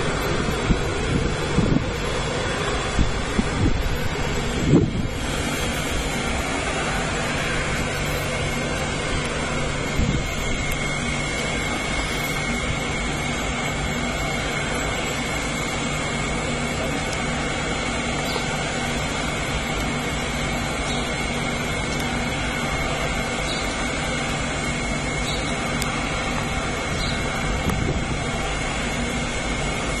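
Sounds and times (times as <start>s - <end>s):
constant high whine: 0.0s - 30.0s
machinery rushing hum: 0.0s - 30.0s.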